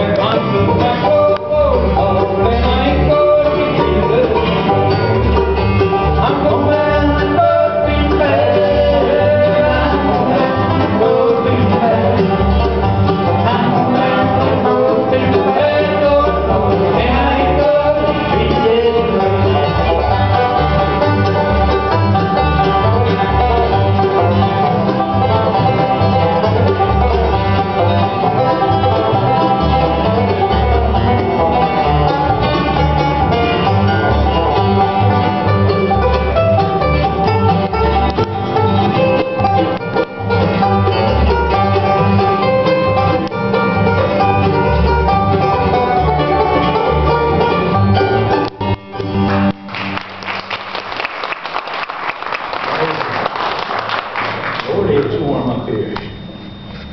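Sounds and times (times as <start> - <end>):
upright bass plucking: 0.0 - 50.9
bluegrass band playing: 0.0 - 55.8.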